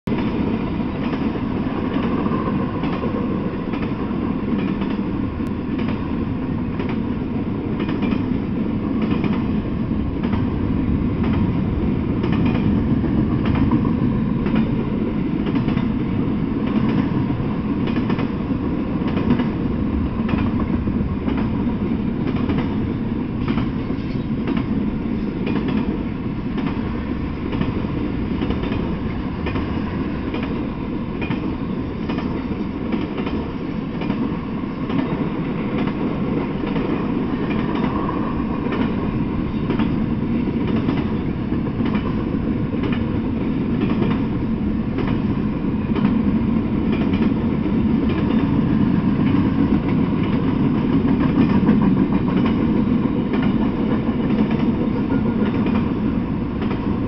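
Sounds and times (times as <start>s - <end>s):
freight train rumbling: 0.0s - 57.0s.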